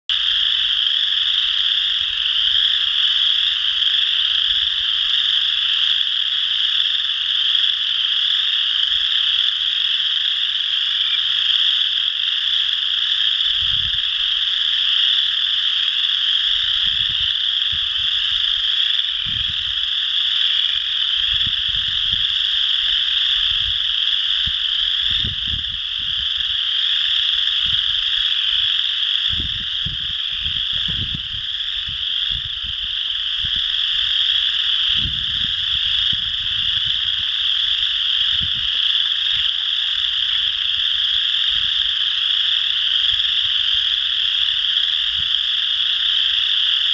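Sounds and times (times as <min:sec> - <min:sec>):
frogs trilling in chorus: 0:00.1 - 0:46.9.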